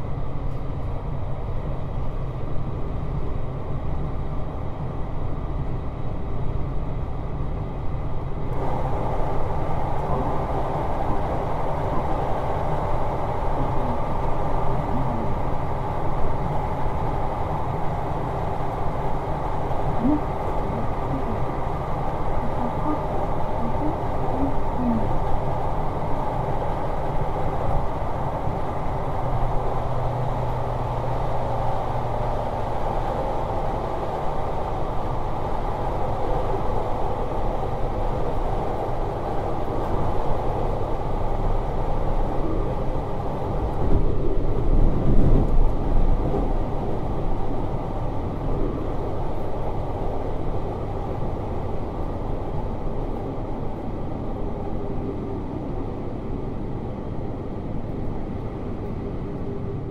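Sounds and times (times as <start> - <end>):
train wheels rumbling on rails: 7.7 - 59.9.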